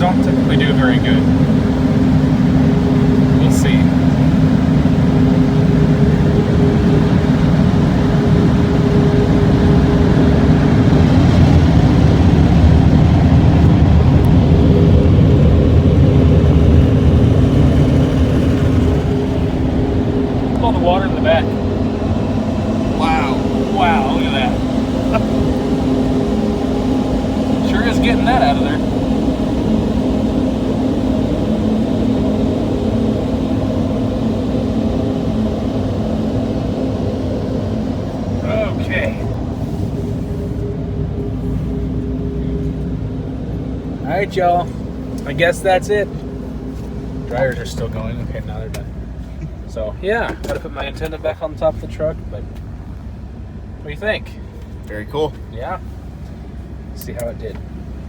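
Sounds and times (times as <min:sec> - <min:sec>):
car wash blower dryers: 0:00.0 - 0:58.0.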